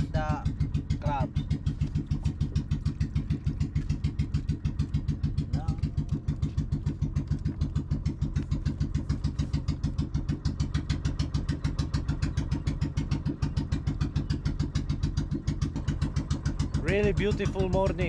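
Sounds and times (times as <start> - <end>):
boat engine puttering: 0.0 - 18.0.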